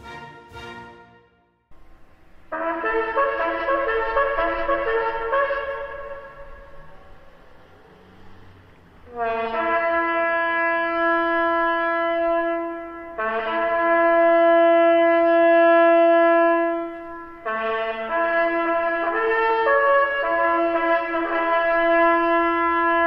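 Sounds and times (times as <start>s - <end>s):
solo wind instrument tune: 0.0s - 1.6s, 2.5s - 7.2s, 9.1s - 23.0s.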